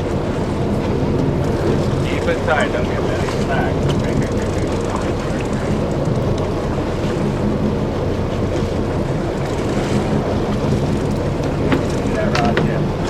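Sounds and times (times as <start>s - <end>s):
boat engine humming: 0.0s - 13.0s
sea water washing: 0.0s - 13.0s.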